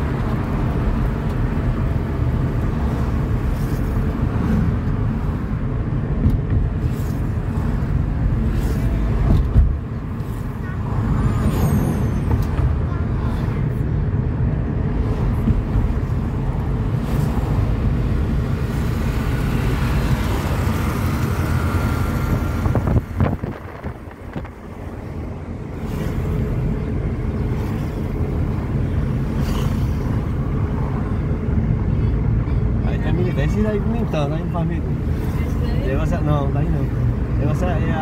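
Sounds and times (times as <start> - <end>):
road and engine rumble in car: 0.0 - 38.0.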